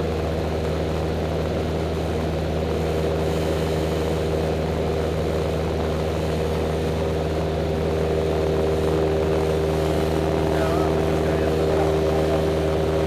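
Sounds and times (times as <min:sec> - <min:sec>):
propeller aircraft engine in cockpit: 0:00.0 - 0:13.0.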